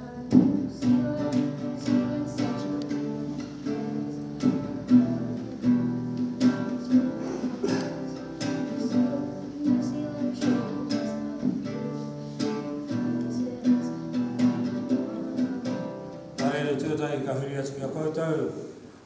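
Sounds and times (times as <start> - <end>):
acoustic guitar and ukuleles strumming: 0.0 - 19.0.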